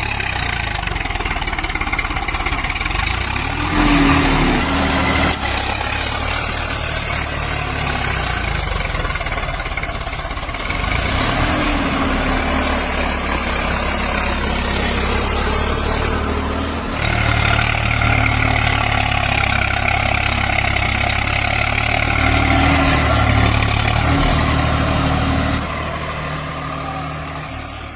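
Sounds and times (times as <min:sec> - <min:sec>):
engine humming and revving: 0:00.0 - 0:27.9.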